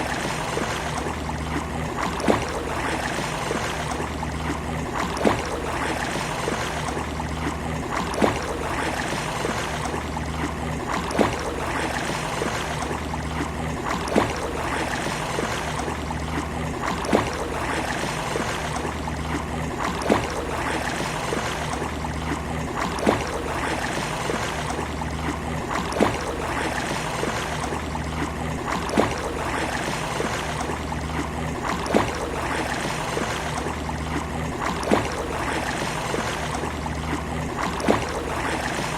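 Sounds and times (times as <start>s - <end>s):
sea water lapping at shore: 0.0s - 38.9s.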